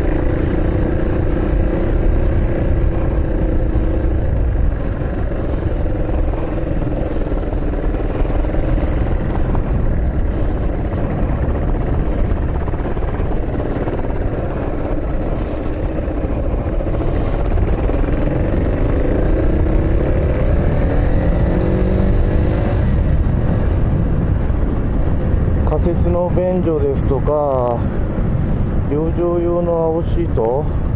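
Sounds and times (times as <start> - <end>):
vehicle road and engine rumble: 0.0 - 30.9.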